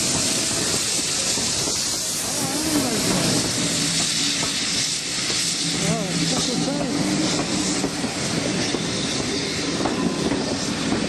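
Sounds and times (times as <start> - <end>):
steam train hissing: 0.0 - 11.0.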